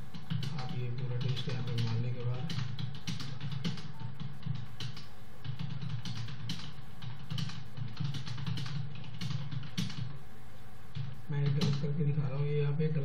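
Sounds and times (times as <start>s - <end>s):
steady low hum: 0.0s - 13.0s
fast typing on keyboard: 0.1s - 10.1s, 10.9s - 12.0s.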